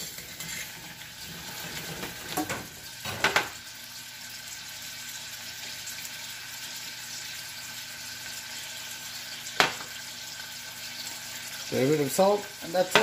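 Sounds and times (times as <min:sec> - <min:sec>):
simmering saucepan hiss: 0:00.0 - 0:13.0.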